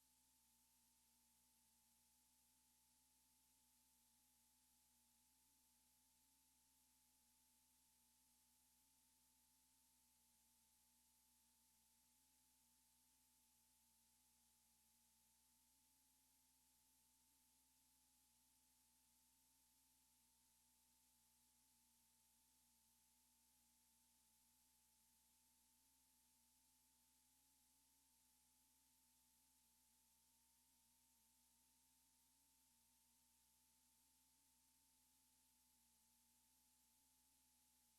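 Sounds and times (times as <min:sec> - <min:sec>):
faint electrical hum and hiss: 0:00.0 - 0:37.9.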